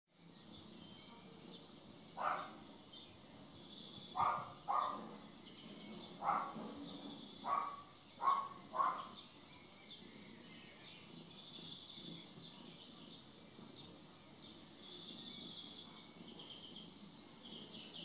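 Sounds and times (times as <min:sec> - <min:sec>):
faint bird chirping: 0:00.2 - 0:18.0.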